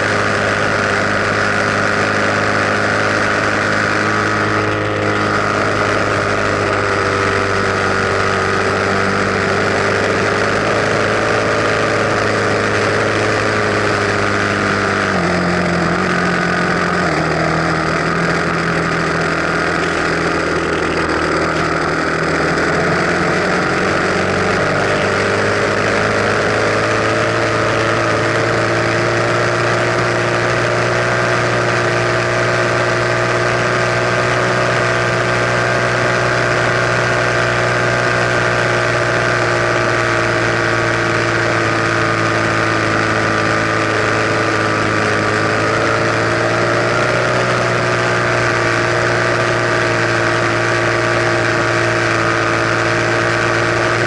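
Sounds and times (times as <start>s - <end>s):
dirt bike engine running: 0.0s - 54.0s
rush of noise: 0.0s - 54.0s.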